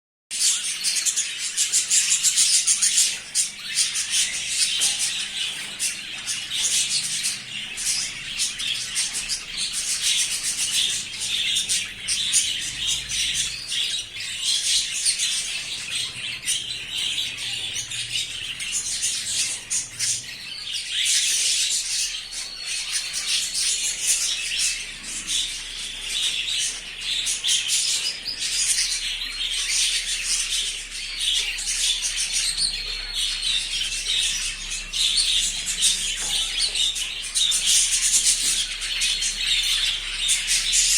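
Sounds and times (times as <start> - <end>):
small birds chirping: 0.3 - 40.9.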